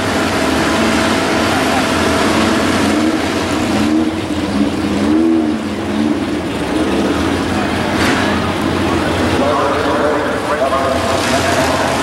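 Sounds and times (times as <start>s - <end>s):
drag car engines idling: 0.0s - 12.0s
engine throttle blips: 0.0s - 12.0s.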